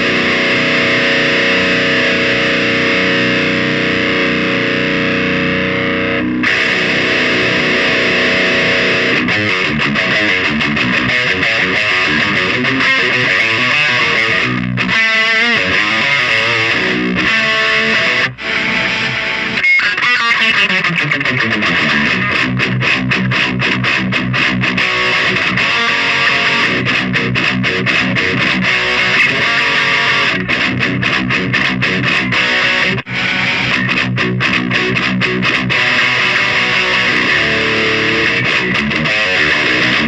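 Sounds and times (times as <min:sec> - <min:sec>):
distorted electric guitar riffs: 0:00.0 - 0:40.0.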